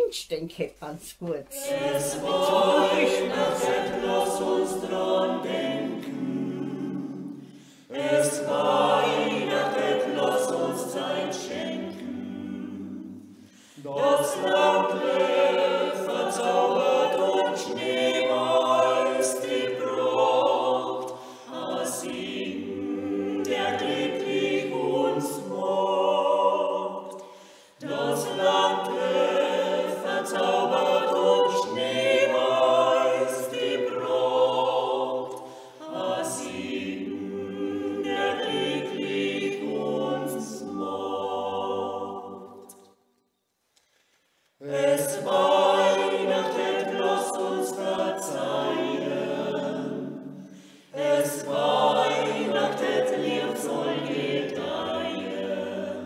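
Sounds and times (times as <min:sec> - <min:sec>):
a cappella ensemble singing: 0:01.5 - 0:56.0.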